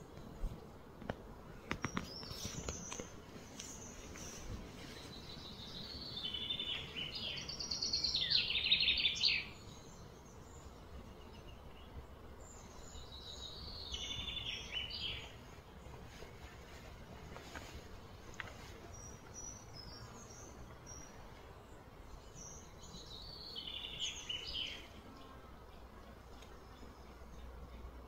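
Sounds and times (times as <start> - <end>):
outdoor background hiss: 0.0 - 28.0
bird singing: 1.8 - 15.6, 18.9 - 27.9.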